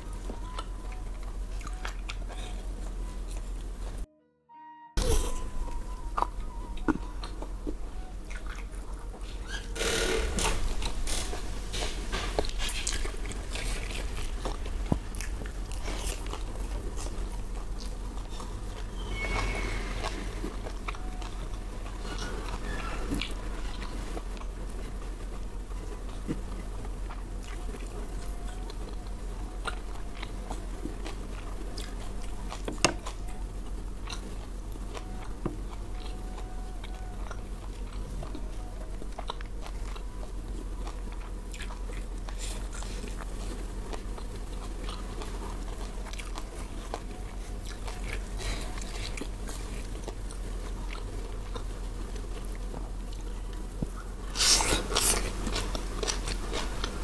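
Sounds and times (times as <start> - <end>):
chewing and crunching food: 0.0 - 4.1, 5.6 - 57.0
low hum: 0.0 - 57.0.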